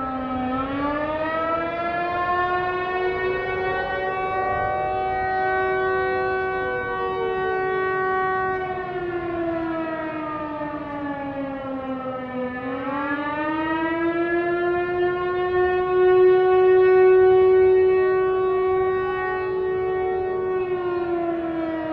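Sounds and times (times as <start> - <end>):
air-raid siren wailing: 0.0 - 21.9.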